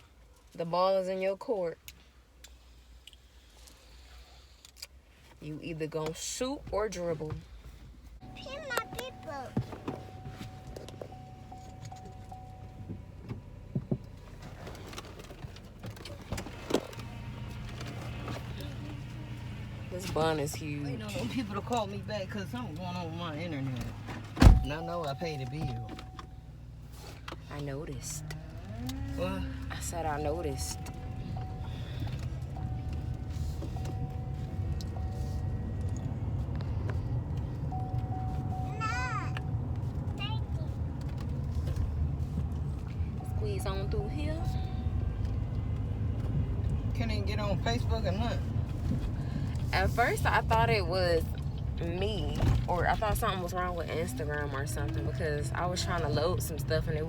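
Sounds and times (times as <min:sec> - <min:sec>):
car engine hum: 0:00.0 - 0:57.0.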